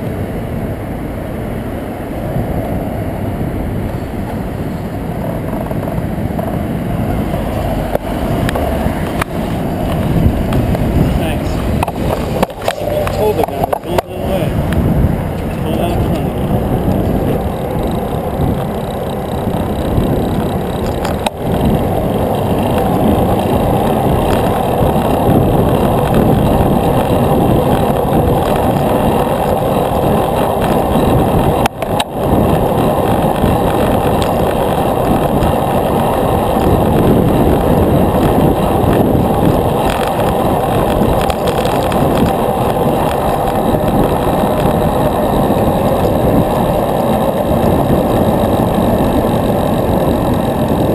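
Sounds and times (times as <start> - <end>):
wind and road rumbling: 0.0 - 50.9.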